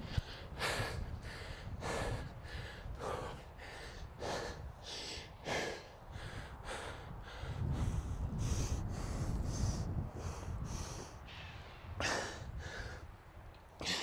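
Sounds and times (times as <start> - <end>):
man breathing heavily: 0.0 - 14.0
wind rumble on microphone: 0.0 - 14.0.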